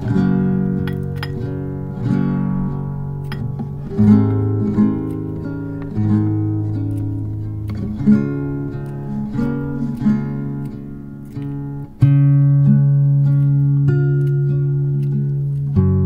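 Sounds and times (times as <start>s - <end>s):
slow acoustic guitar music: 0.0s - 16.0s.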